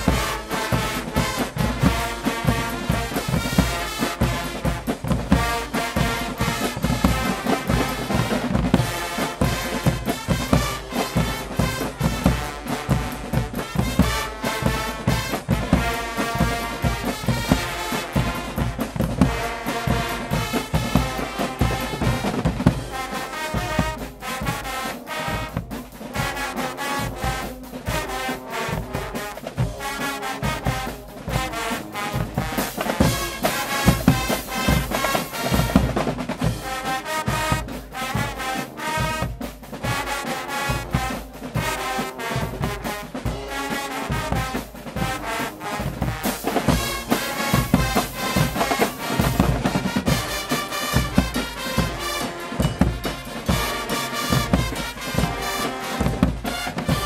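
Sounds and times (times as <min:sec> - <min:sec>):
brass instruments playing: 0:00.0 - 0:57.0
drums keeping a steady beat: 0:00.0 - 0:57.0.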